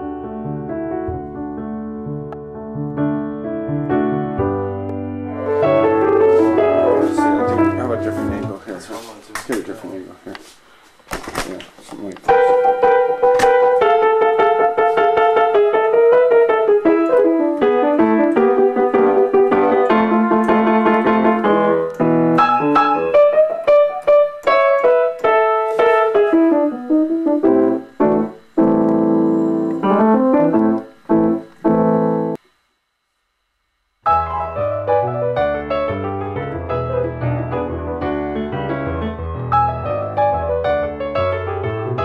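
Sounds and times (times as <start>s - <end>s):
grand piano playing: 0.0s - 8.8s, 12.3s - 32.4s, 34.1s - 42.0s.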